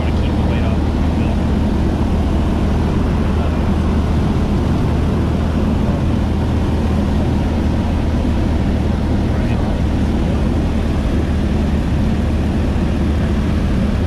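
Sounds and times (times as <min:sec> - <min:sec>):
light airplane engine drone: 0:00.0 - 0:14.0
rushing airflow: 0:00.0 - 0:14.0.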